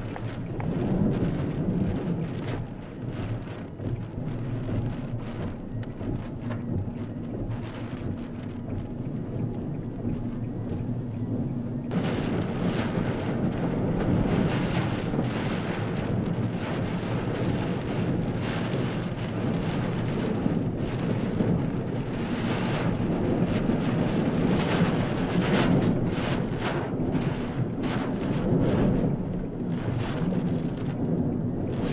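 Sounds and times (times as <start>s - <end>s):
driving rain: 0.0s - 31.9s
strong wind: 0.0s - 31.9s.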